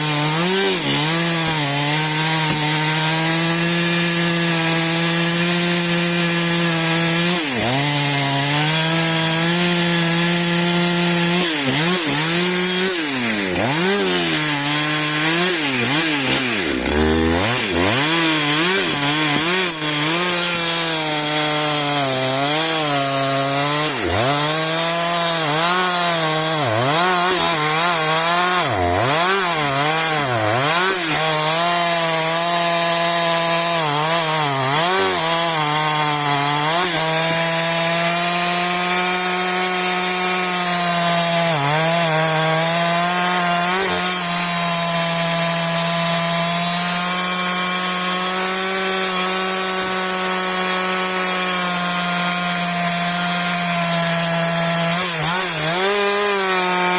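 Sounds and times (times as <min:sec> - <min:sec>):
chainsaw cutting a log: 0:00.0 - 0:56.9.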